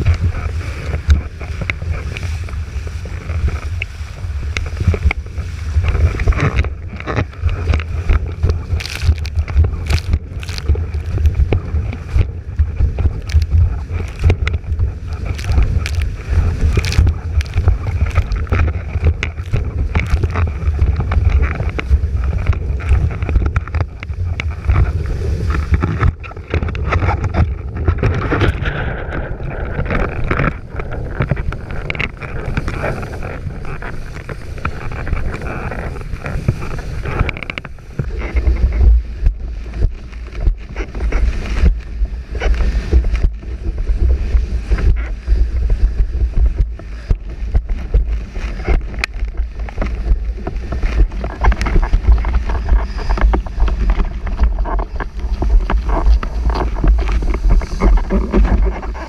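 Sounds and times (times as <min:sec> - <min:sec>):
rushing water and spray: 0:00.0 - 0:59.0
wind buffeting microphone: 0:00.0 - 0:59.0.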